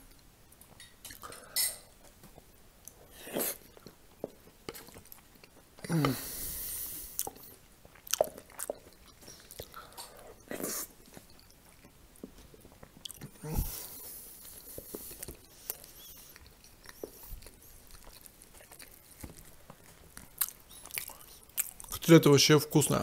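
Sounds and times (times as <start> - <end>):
close chewing of soft food: 0.0 - 22.2.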